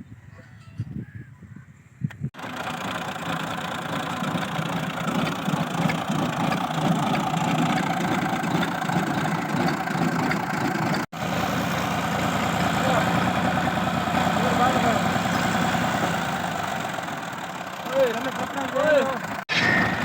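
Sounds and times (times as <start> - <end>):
threshing machine running: 2.4 - 20.0.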